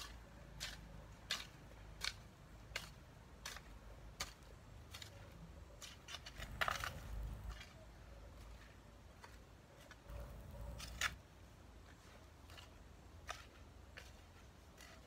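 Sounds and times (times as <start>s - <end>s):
hoe chopping and scraping soil: 0.0s - 15.0s.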